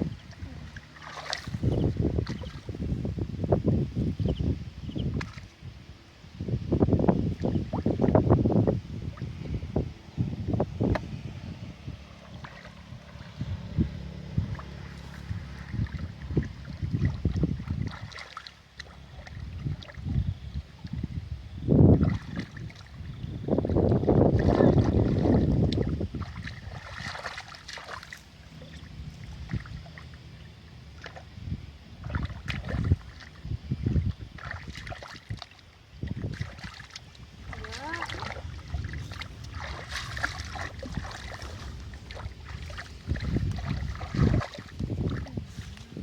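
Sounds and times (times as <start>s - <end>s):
water sloshing and splashing: 0.0s - 5.7s, 6.8s - 9.9s, 11.8s - 46.0s.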